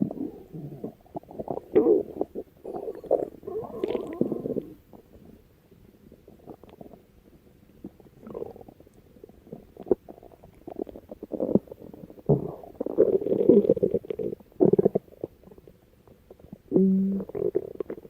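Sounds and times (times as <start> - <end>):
stomach growling and gurgling: 0.0 - 5.4, 6.0 - 18.0.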